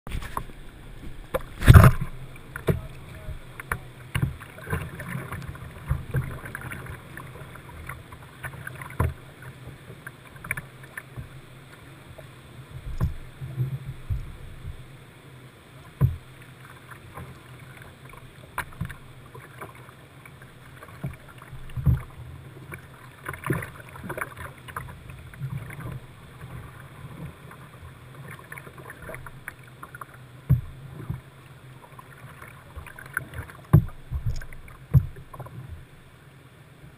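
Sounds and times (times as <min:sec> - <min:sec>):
paddle splashes: 0:00.1 - 0:36.2
moving water wash: 0:00.1 - 0:36.9.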